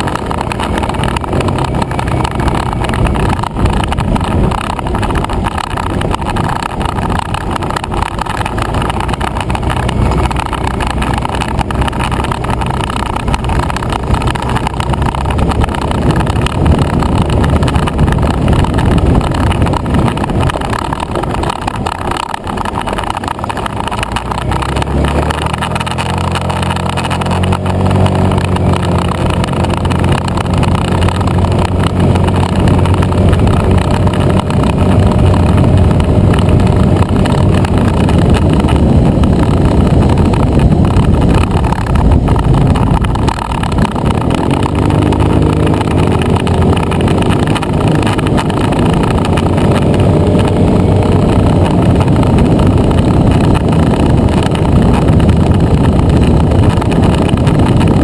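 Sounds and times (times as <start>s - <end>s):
motor scooter engine: 0.0s - 58.0s
wind noise on microphone: 0.0s - 58.0s.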